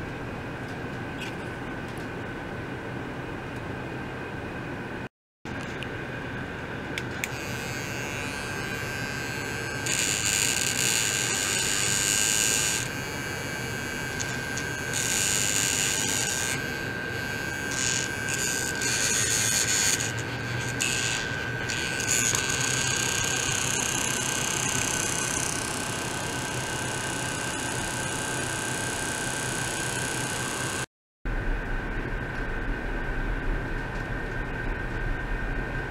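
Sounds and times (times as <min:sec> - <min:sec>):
steady high whine: 0:00.0 - 0:35.9.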